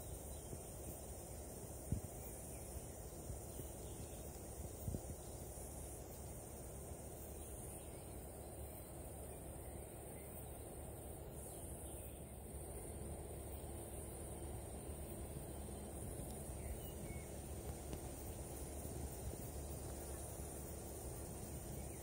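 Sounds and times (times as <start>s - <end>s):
high hiss: 0.0s - 22.0s.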